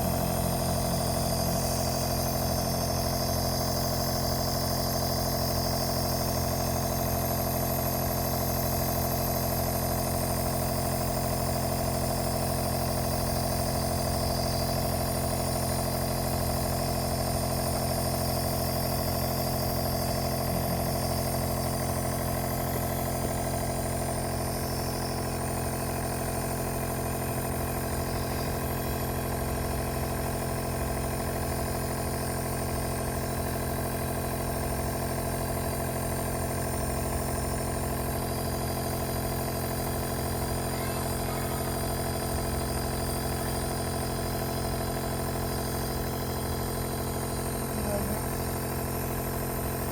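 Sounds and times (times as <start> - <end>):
nebulizer compressor humming: 0.0 - 49.9.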